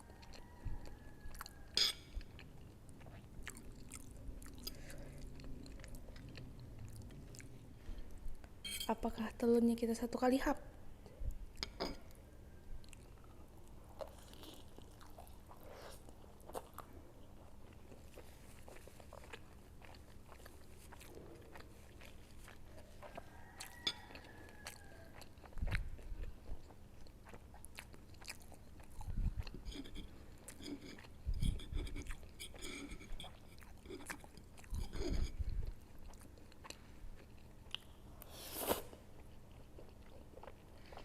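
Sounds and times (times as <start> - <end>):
chewing and biting food: 0.0 - 7.7, 12.8 - 38.0, 39.1 - 41.0.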